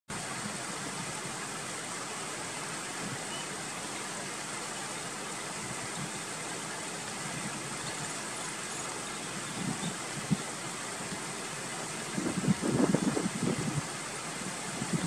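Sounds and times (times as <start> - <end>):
steady outdoor hiss: 0.1 - 15.0.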